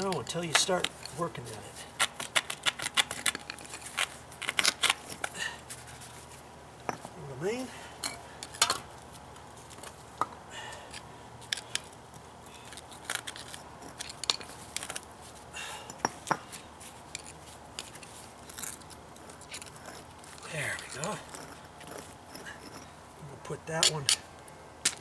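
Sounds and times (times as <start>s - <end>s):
concrete pavers clicking and knocking: 0.0s - 6.2s, 9.6s - 25.0s.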